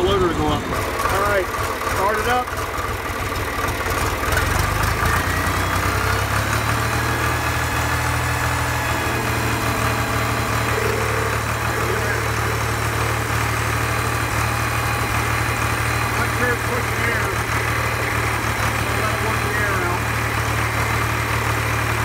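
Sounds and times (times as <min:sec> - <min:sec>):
backhoe engine idling: 0:00.0 - 0:22.0.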